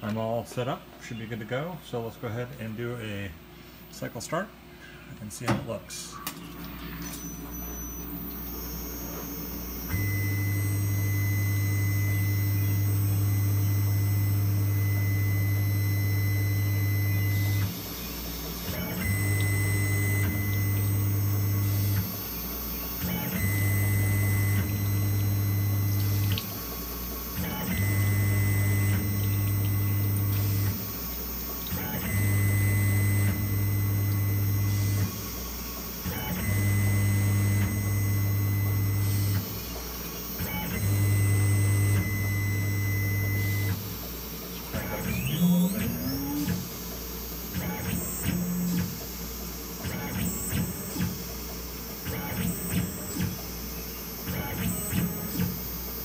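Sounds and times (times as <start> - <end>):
electric hum with high whine: 0.0 - 56.0.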